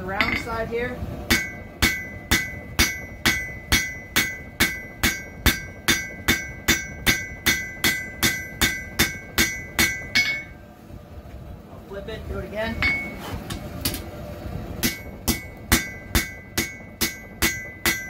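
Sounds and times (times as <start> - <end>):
hammer striking hot steel on anvil: 0.0 - 0.6, 1.3 - 10.6, 12.7 - 14.1, 14.8 - 18.0.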